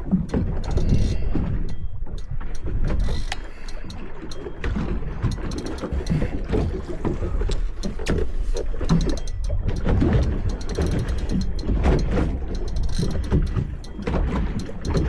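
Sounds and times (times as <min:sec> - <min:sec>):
sharp clicks: 0:00.0 - 0:06.7, 0:07.4 - 0:15.0
wind and water rumble: 0:00.0 - 0:15.0.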